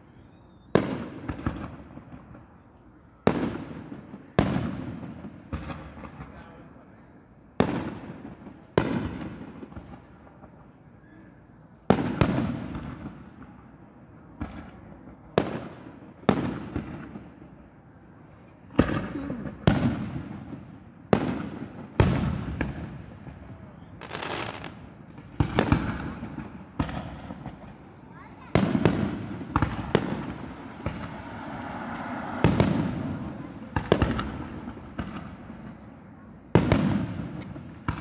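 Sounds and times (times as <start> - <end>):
fireworks booming overhead: 0.0 - 38.0.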